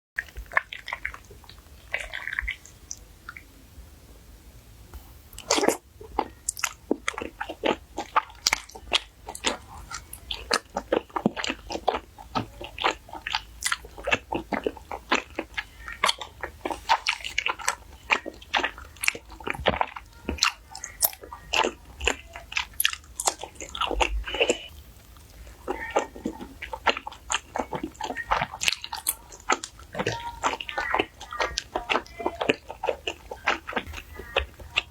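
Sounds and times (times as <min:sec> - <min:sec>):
close chewing mouth clicks: 0:00.2 - 0:03.4, 0:05.3 - 0:34.9.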